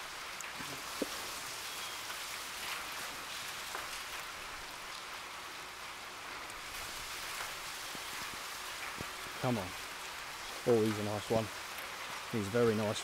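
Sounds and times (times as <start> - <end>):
heavy rain falling: 0.0 - 13.0
raindrops ticking: 0.0 - 13.0.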